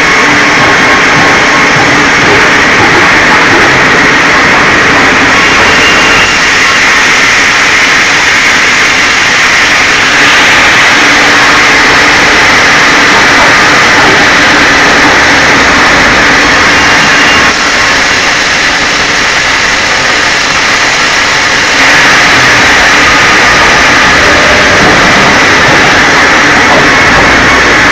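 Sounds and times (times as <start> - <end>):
band saw cutting log: 0.3 - 27.9.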